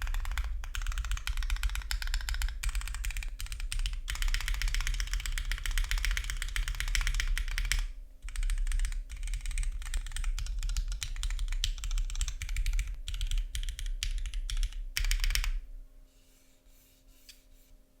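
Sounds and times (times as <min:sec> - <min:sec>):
mechanical keyboard typing: 0:00.0 - 0:15.6.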